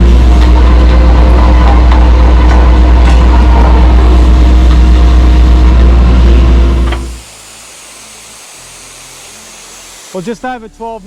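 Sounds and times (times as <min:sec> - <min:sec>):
heavy engine humming: 0:00.0 - 0:11.0.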